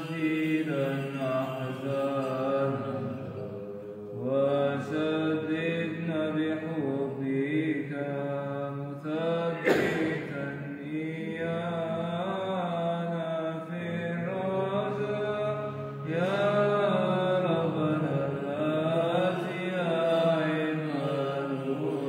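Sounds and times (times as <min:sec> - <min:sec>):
chant over held drone: 0:00.0 - 0:22.0.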